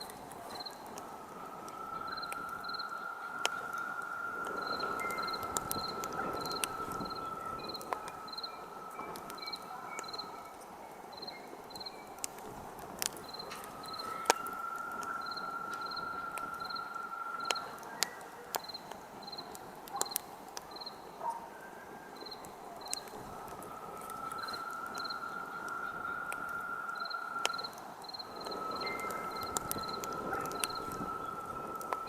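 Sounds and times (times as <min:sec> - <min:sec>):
steady high whistle: 0:00.0 - 0:12.2, 0:13.1 - 0:19.6, 0:20.7 - 0:32.0
campfire crackling and popping: 0:00.0 - 0:32.0
crickets chirping: 0:00.0 - 0:32.0.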